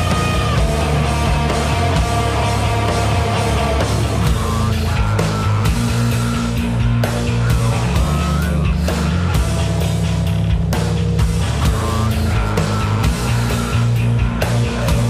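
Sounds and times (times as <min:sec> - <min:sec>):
electric guitar: 0:00.0 - 0:15.0
heavy bass line: 0:00.0 - 0:15.0
rock music: 0:00.0 - 0:15.0
steady drum beat: 0:00.0 - 0:15.0.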